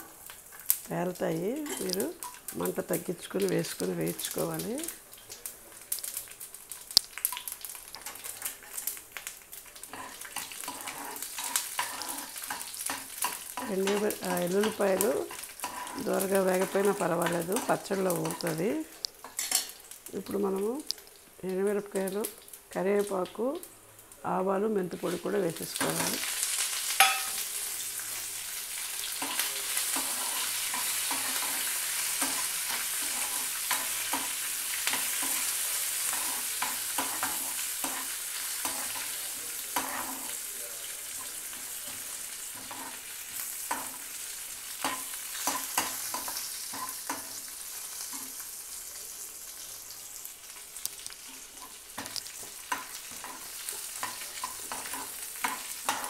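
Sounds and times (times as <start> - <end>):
spices sizzling in hot oil: 0.0 - 56.0.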